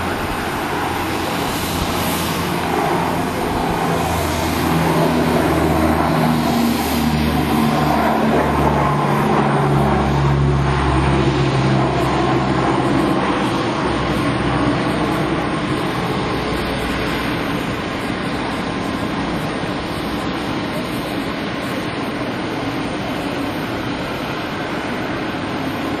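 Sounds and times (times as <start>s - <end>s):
turboprop aircraft engines: 0.0s - 26.0s.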